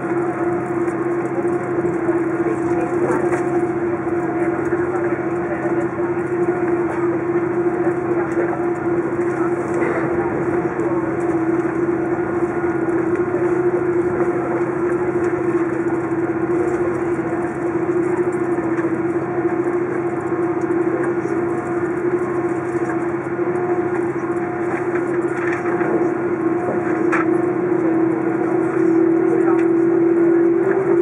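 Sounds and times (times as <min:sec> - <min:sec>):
airliner rolling rumble: 0:00.0 - 0:31.0
jet engine hum: 0:00.0 - 0:31.0.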